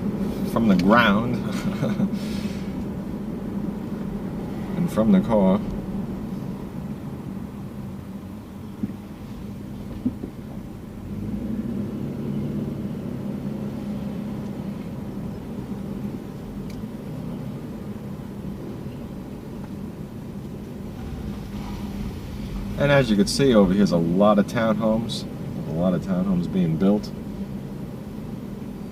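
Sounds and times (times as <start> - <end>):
car engine and tyre hum: 0.0 - 28.9.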